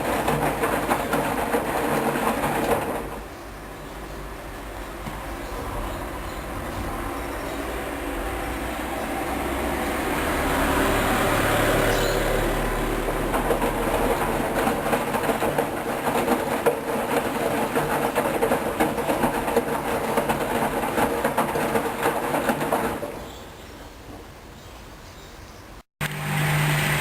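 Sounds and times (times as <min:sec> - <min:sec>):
washing machine humming and rattling: 0:00.0 - 0:24.6.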